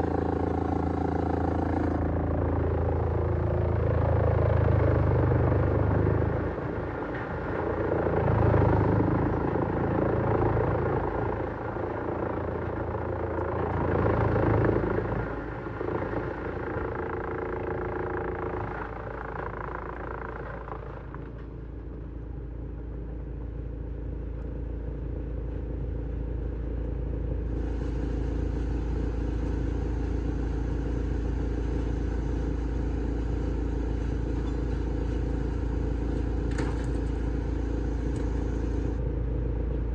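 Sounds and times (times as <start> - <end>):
wood chipper running: 0.0 - 21.6, 27.3 - 39.9.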